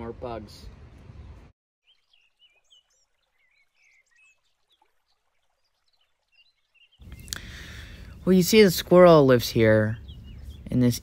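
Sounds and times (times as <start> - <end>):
birds chirping and whistling: 1.2 - 11.0.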